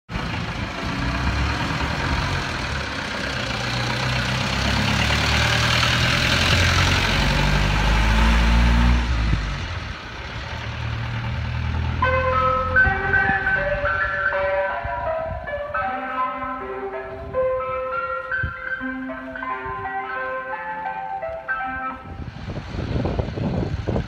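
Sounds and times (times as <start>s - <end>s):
van engine pulling away: 0.1s - 24.0s.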